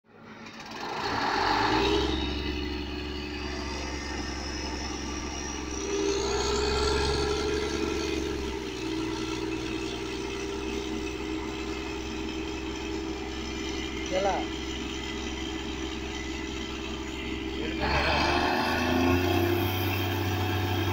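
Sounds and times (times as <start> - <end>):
truck engine running: 0.1 - 20.9
faint rising whine: 1.2 - 20.9.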